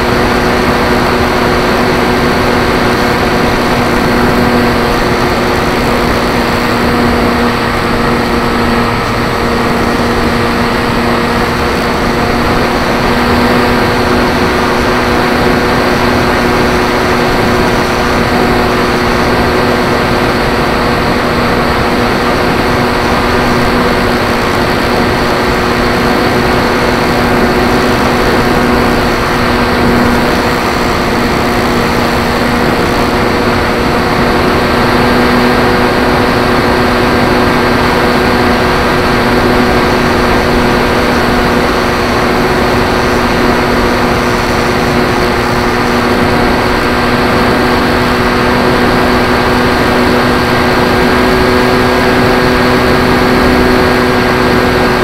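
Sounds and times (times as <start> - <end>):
electric motor whine: 0.0 - 55.0
propeller and air hiss: 0.0 - 55.0.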